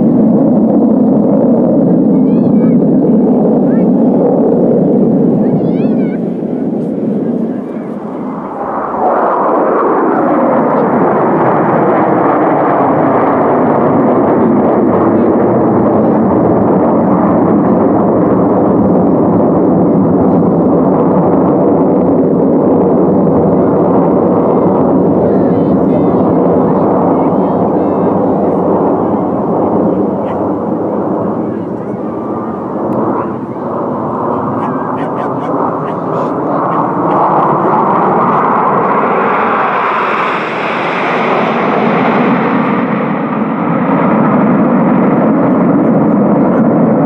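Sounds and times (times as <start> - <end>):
jet aircraft roaring: 0.0 - 47.0.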